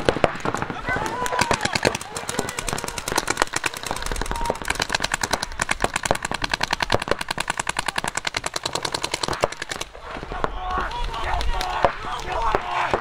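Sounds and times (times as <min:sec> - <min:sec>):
paintball markers firing rapidly: 0:00.0 - 0:13.0.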